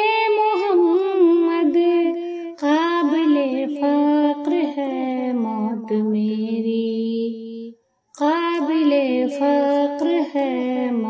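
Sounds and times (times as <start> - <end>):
woman singing devotional song: 0.0 - 11.0.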